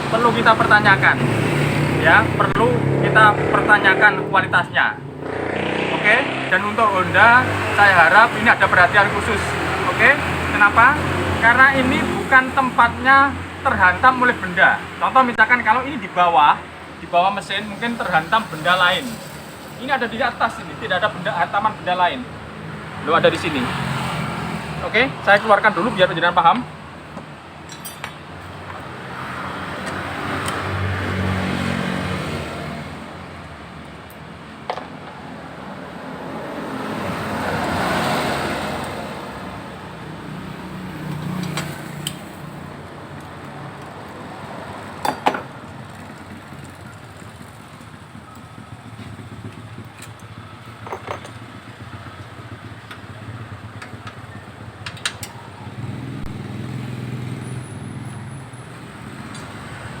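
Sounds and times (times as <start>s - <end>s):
low traffic hum: 0.0s - 60.0s
vehicles passing by: 0.0s - 60.0s.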